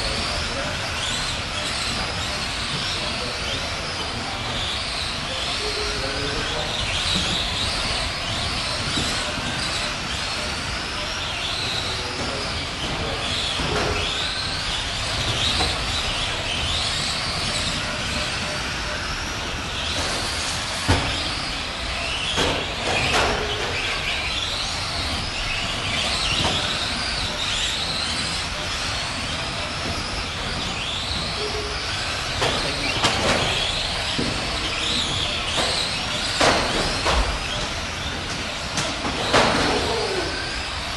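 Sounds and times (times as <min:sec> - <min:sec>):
toy truck electric motors whining: 0:00.0 - 0:40.9.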